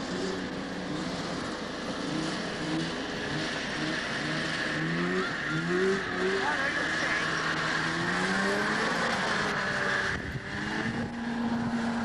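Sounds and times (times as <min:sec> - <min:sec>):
snowmobile engines revving: 0:00.0 - 0:12.0.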